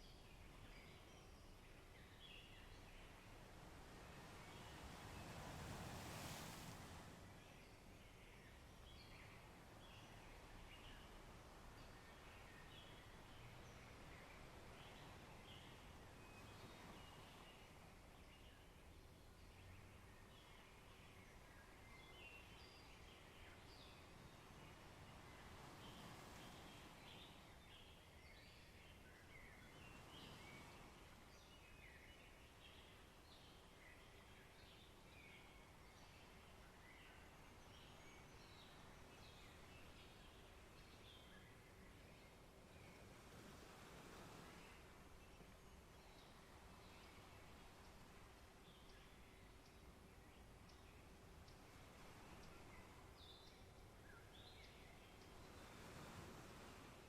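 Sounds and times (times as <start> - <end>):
nature ambience rush: 0.0 - 57.0
steady low hiss: 0.0 - 57.0.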